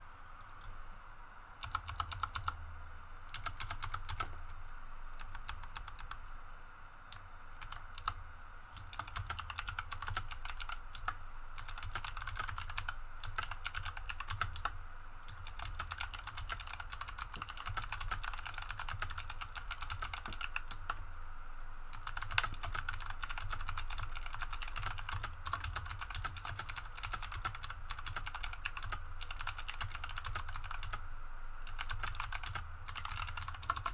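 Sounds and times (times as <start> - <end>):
mechanical keyboard typing: 1.6 - 2.6, 3.3 - 4.4, 5.2 - 6.2, 7.1 - 8.2, 8.8 - 21.0, 21.9 - 31.0, 31.7 - 33.9.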